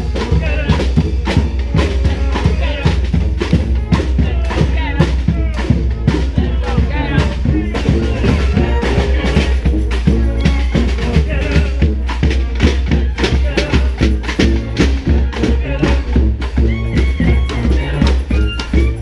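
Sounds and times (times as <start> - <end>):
bass drum and snare beat: 0.0 - 19.0
brass horn lines: 0.0 - 19.0
low bass line: 0.0 - 19.0.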